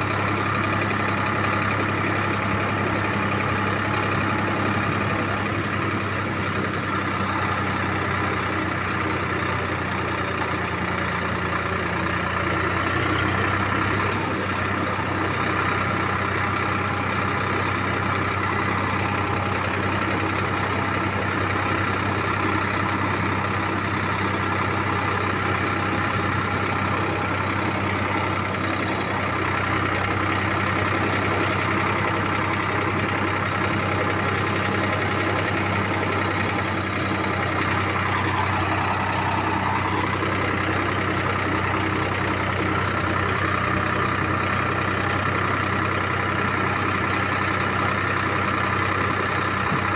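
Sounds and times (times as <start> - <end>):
tractor engine droning: 0.0 - 49.9.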